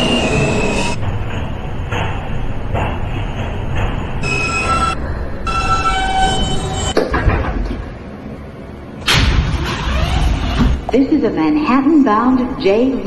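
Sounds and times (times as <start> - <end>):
train rumble: 0.0 - 11.8.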